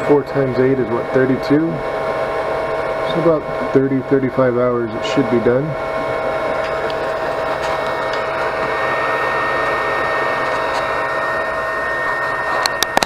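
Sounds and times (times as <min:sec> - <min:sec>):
cooling fans whirring: 0:00.0 - 0:13.0
whining tones: 0:00.0 - 0:13.0.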